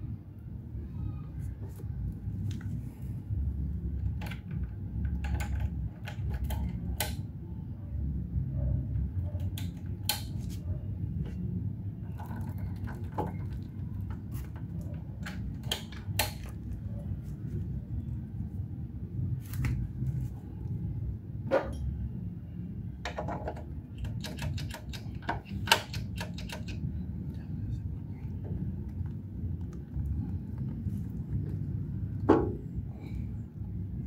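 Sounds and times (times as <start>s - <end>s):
steady low rumble: 0.0s - 24.1s, 26.6s - 34.0s.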